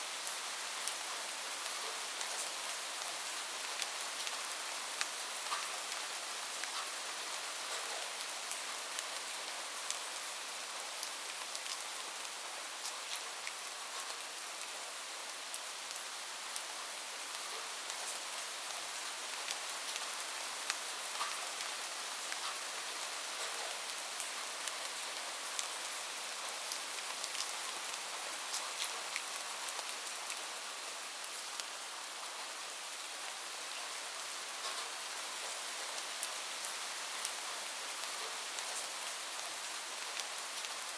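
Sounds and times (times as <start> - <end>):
light rain hissing: 0.0 - 40.9
raindrops ticking on a surface: 0.2 - 14.8, 15.4 - 30.5, 34.6 - 40.9.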